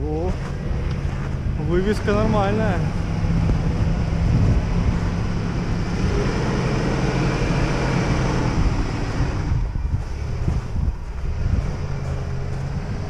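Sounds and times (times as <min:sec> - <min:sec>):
suv engine running: 0:00.0 - 0:13.0.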